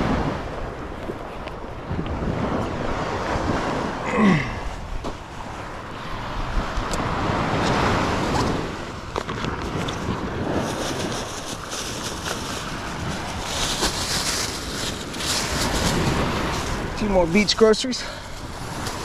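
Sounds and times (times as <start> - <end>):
wind buffeting microphone: 0.0 - 19.0
surf breaking on beach: 2.1 - 19.0.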